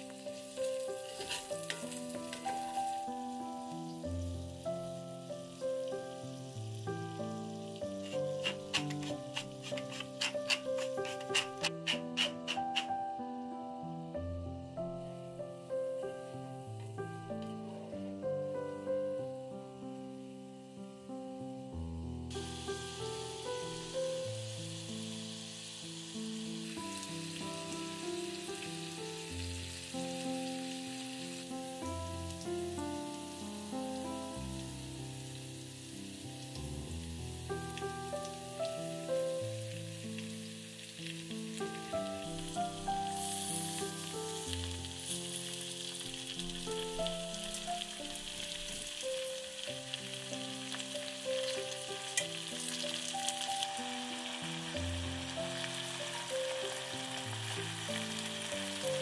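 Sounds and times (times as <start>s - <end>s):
food sizzling in a pan: 0.0s - 59.0s
slow melodic background music: 0.0s - 59.0s.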